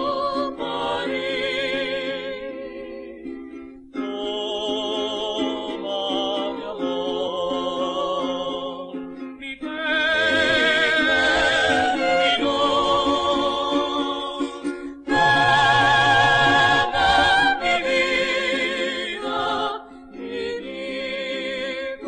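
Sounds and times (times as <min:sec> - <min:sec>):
vocal group singing in harmony: 0:00.0 - 0:22.0.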